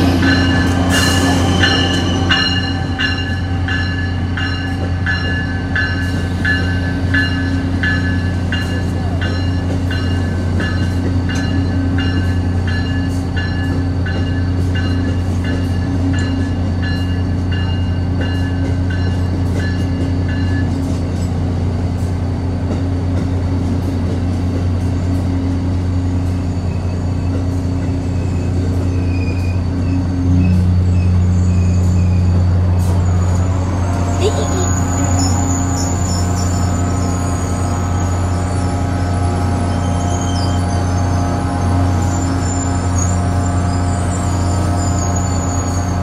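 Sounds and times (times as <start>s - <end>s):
passenger train cars rolling: 0.0s - 46.0s.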